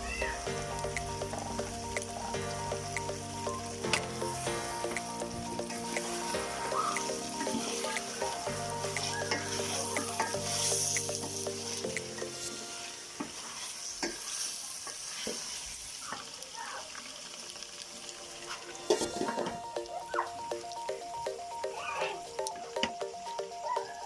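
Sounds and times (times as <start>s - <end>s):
vegetables sizzling in a pan: 0.0s - 20.4s.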